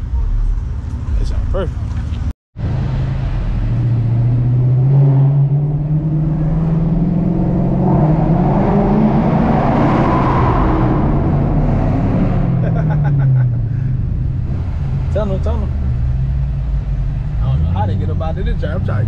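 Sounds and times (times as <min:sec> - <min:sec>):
tyre and road noise: 0:00.0 - 0:19.0.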